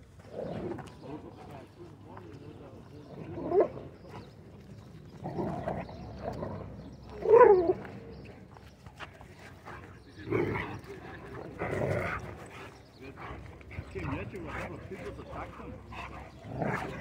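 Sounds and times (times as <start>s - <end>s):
dogs growling: 0.1s - 1.8s, 2.7s - 8.6s, 9.5s - 17.0s.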